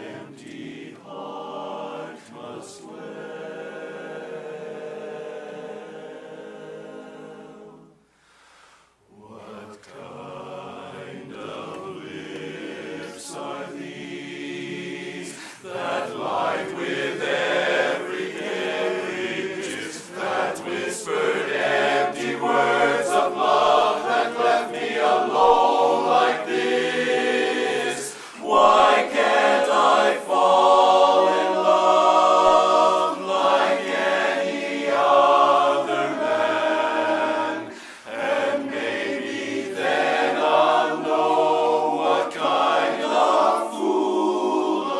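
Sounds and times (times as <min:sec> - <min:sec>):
men's chorus singing a cappella: 0:00.0 - 0:08.0, 0:09.1 - 0:44.9.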